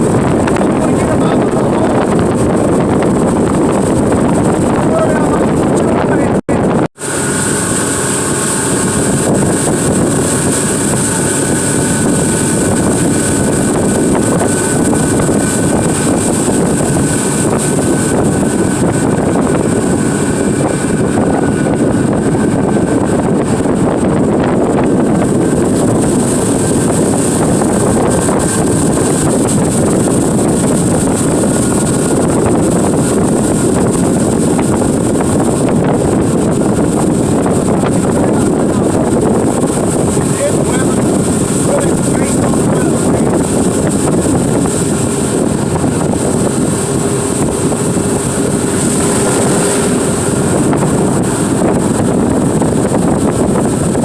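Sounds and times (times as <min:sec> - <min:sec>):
boat motor running: 0:00.0 - 0:54.0.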